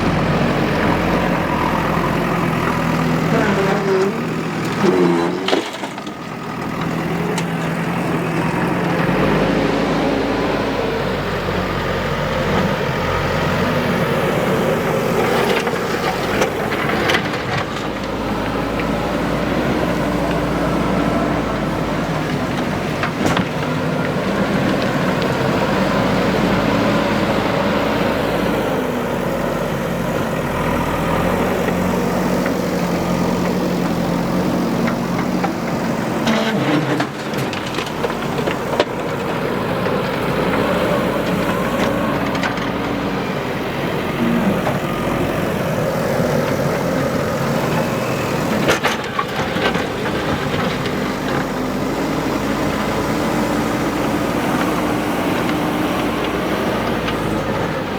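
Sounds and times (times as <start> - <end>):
backhoe diesel engine running: 0.0 - 57.9.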